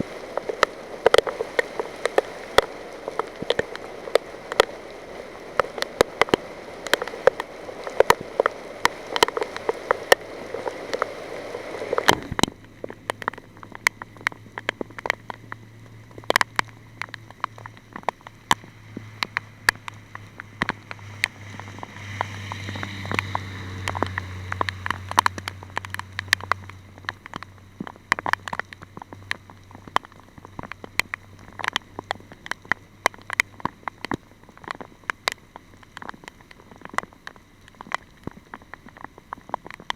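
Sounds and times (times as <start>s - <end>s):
low steady hum: 0.0s - 39.9s
raindrops ticking on a surface: 0.0s - 39.9s
steady hiss of rainfall: 0.0s - 39.9s.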